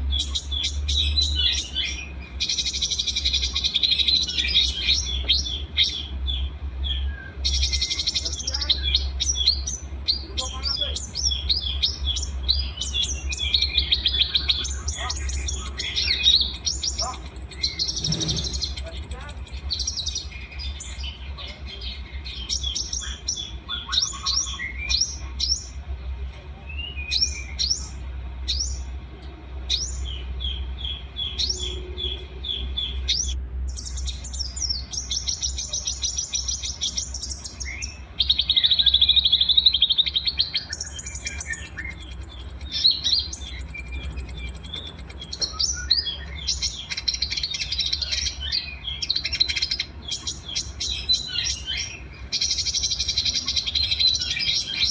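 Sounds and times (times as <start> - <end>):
buzzy bird trill: 0.0 - 25.8, 29.7 - 54.9
songbirds singing: 0.0 - 54.9.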